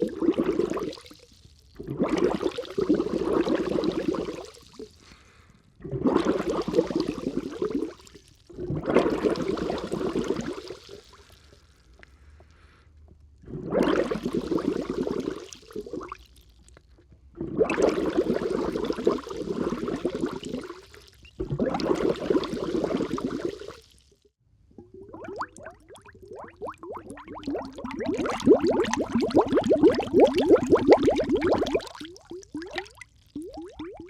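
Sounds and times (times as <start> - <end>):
air bubbling under water: 0.0 - 1.2, 1.8 - 4.9, 5.8 - 11.3, 13.4 - 16.2, 17.4 - 23.8, 24.8 - 34.0.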